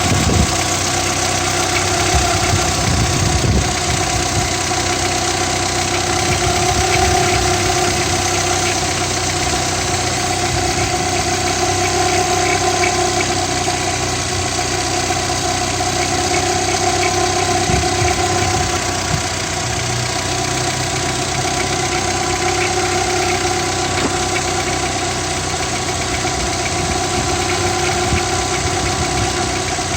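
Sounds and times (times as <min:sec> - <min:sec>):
car engine running: 0:00.0 - 0:29.9
periodic engine knock: 0:00.0 - 0:29.9.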